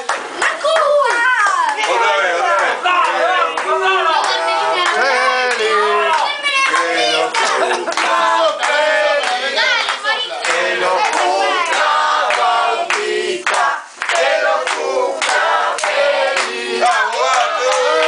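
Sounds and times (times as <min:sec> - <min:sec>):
people clapping: 0:00.0 - 0:18.0
children and adults singing: 0:01.8 - 0:18.0.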